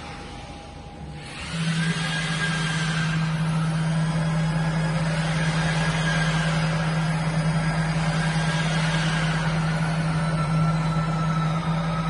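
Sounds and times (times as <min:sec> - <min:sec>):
router motor humming: 0:01.2 - 0:11.7.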